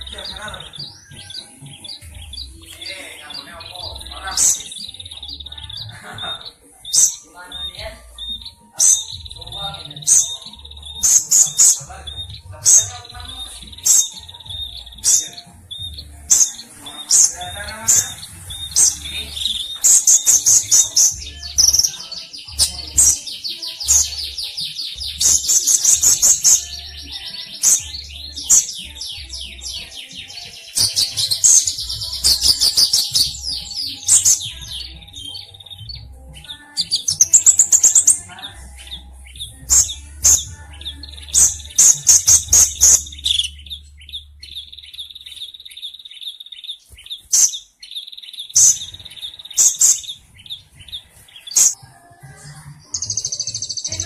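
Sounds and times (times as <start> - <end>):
sunbird singing rapid chirps: 0.0 - 51.8, 52.7 - 54.0.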